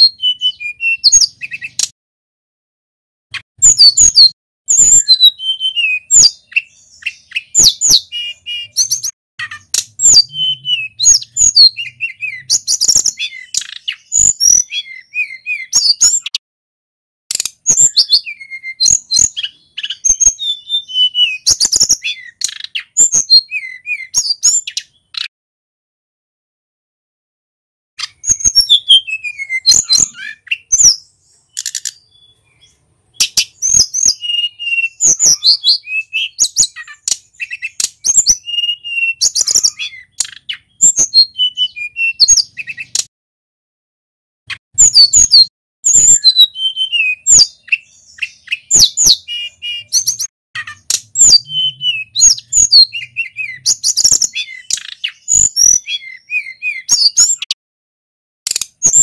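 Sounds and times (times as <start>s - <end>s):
songbird singing: 0.0s - 2.0s, 3.3s - 16.4s, 17.3s - 25.3s, 28.0s - 43.1s, 44.5s - 57.6s.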